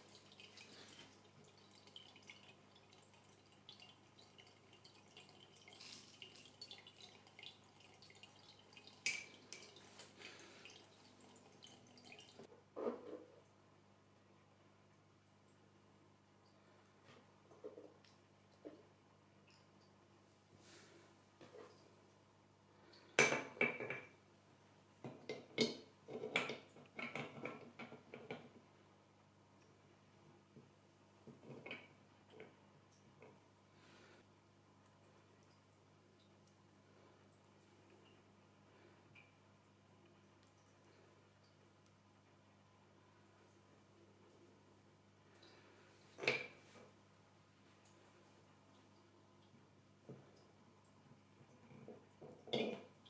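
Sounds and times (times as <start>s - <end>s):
faint dripping water: 0.0s - 53.0s.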